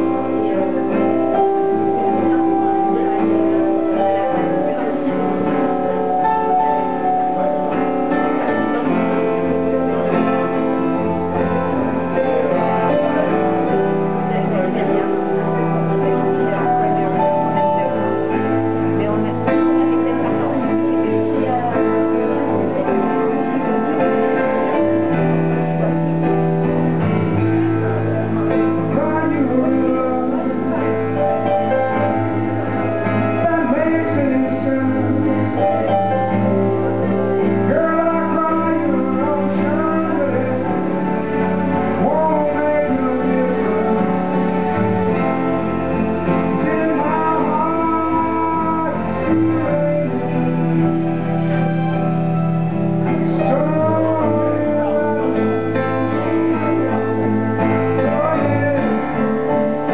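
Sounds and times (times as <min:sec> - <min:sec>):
acoustic guitar: 0:00.0 - 0:59.9
digital piano: 0:00.0 - 0:59.9.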